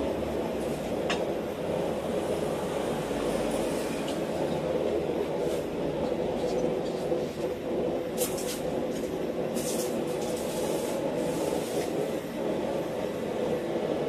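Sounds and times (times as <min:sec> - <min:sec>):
forge droning: 0:00.0 - 0:14.0.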